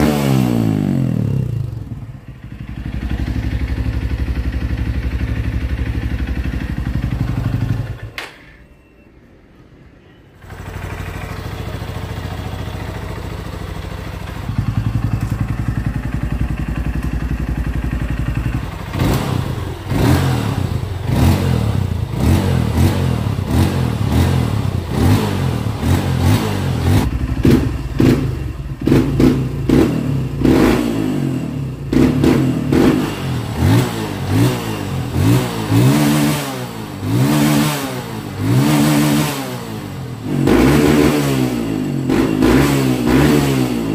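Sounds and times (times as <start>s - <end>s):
motorcycle engine revving: 0.0s - 8.1s, 10.4s - 43.9s.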